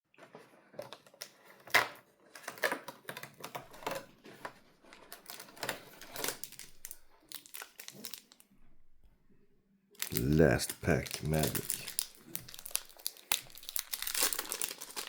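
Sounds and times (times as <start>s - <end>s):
packaging clicks and rustles: 0.4s - 8.5s, 10.0s - 15.0s.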